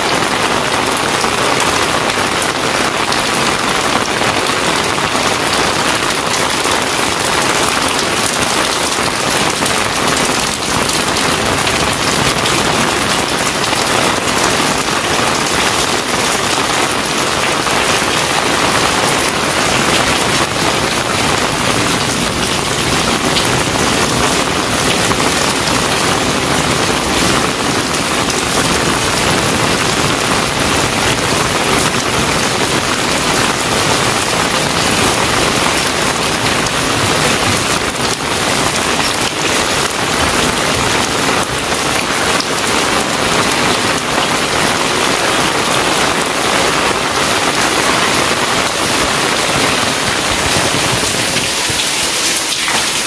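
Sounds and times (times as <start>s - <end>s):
heavy rain on concrete: 0.0s - 53.0s.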